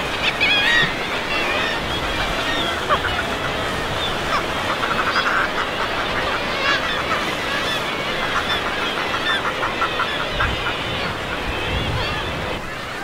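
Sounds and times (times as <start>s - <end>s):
seabirds giving harsh calls: 0.0s - 12.7s
surf: 0.0s - 13.0s
wind: 0.0s - 13.0s.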